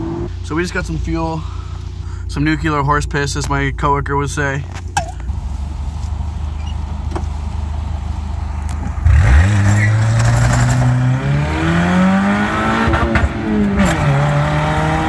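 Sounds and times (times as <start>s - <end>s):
car engine revving up: 0.0s - 2.4s, 5.3s - 15.0s.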